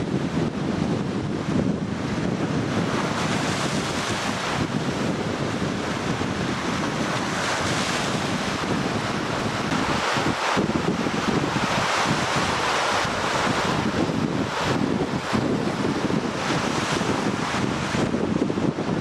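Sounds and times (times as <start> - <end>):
strong wind buffeting microphone: 0.0 - 19.0
waves breaking: 0.0 - 19.0.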